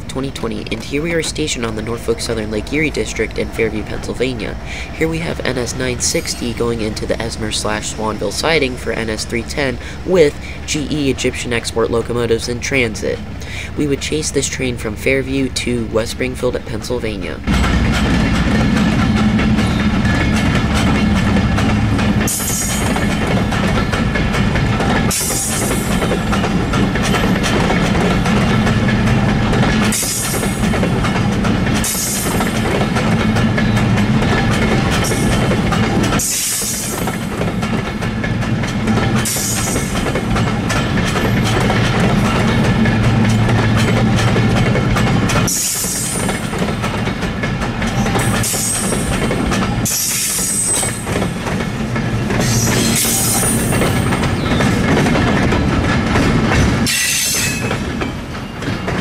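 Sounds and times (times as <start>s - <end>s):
train rumble: 0.0s - 59.0s
train wheels clicking over rail joints: 0.0s - 59.0s.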